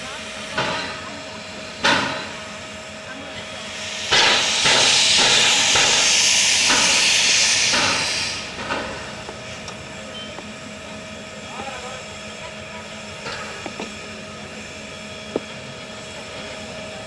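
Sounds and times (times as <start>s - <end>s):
steam locomotive blowing off steam: 0.0s - 17.0s.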